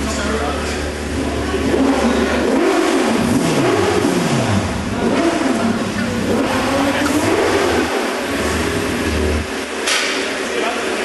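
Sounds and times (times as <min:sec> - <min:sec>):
motorcycle engine revving: 0:00.8 - 0:11.0.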